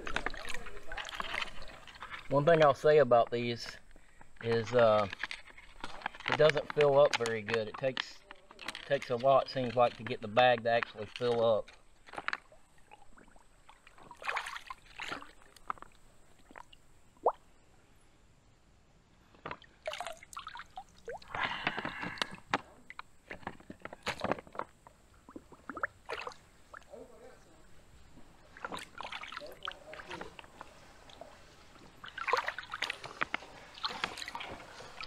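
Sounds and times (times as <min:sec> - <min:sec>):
creek water splashing: 0:00.0 - 0:17.6, 0:19.4 - 0:35.0.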